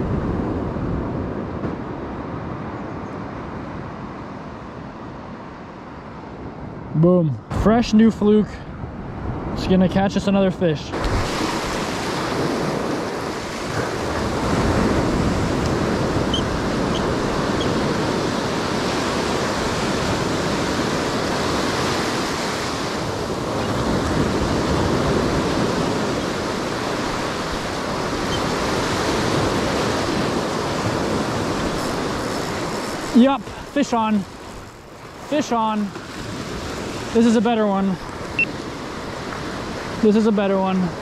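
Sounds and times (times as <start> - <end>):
ocean waves breaking on beach: 0.0 - 41.0.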